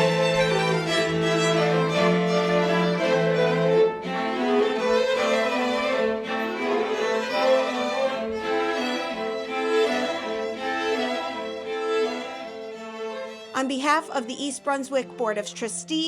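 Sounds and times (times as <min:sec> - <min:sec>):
string quartet playing: 0:00.0 - 0:16.0.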